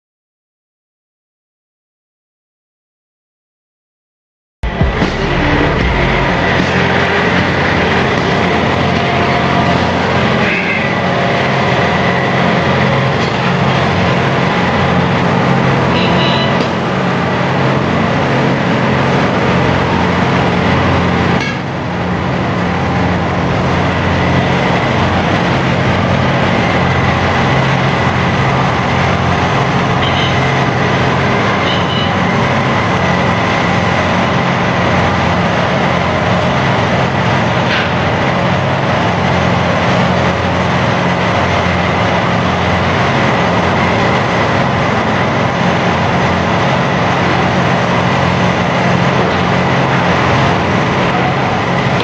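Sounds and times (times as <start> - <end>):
constant high whine: 4.6 - 52.0
diesel engine drone: 4.6 - 52.0.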